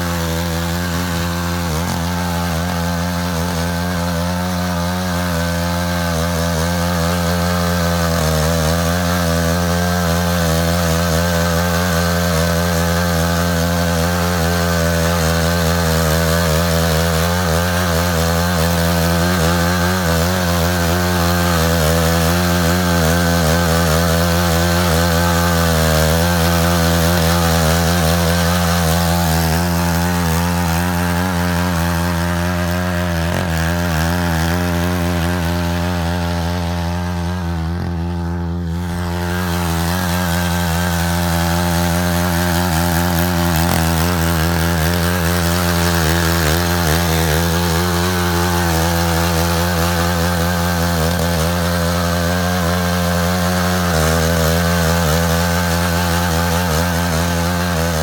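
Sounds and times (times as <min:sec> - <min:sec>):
power tiller engine running: 0:00.0 - 0:58.0.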